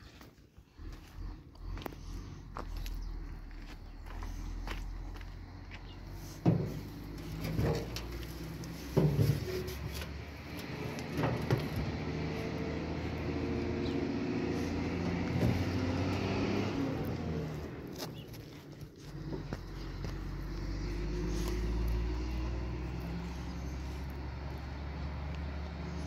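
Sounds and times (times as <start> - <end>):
engine hum: 0.1 - 26.0.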